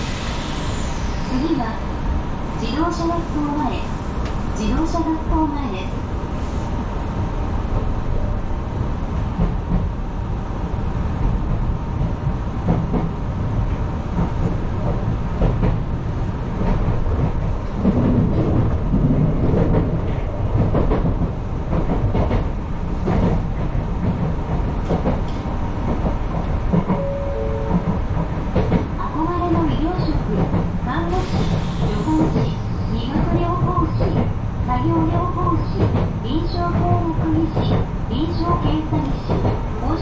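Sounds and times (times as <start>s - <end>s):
electric train rumbling: 0.0s - 40.0s.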